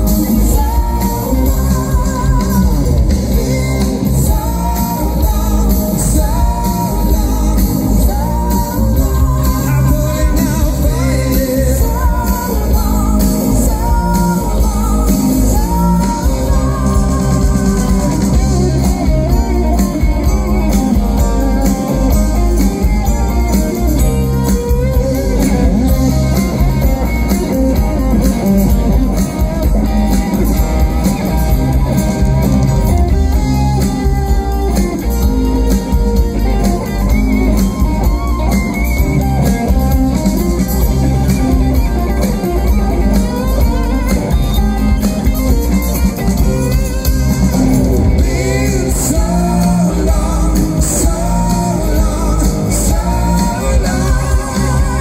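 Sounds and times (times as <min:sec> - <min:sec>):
electric guitar: 0:00.0 - 0:55.0
live rock band: 0:00.0 - 0:55.0.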